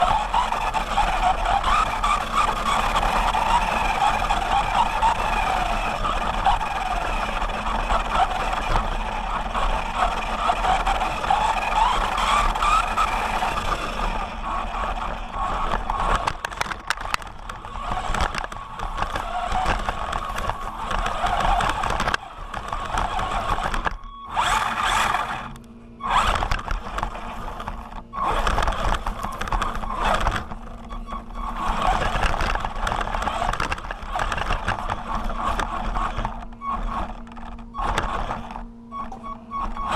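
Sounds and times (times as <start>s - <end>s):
chassis rattle and scraping: 0.0s - 39.9s
electric motor whining: 0.0s - 39.9s
tyre noise: 0.0s - 39.9s.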